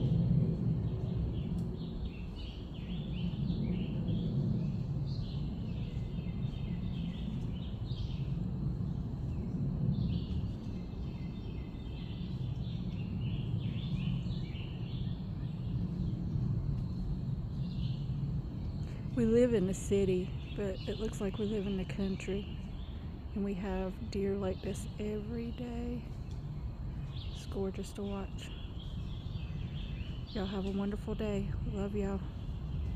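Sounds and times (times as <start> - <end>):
low background rumble: 0.0 - 32.9
songbirds chirping: 0.0 - 32.9.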